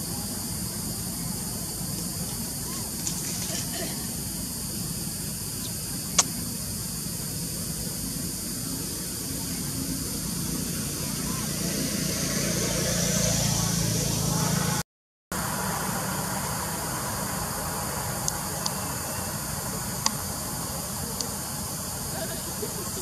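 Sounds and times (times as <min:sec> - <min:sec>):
outdoor background noise: 0:00.0 - 0:23.0
vehicle engine rumble: 0:00.0 - 0:23.0.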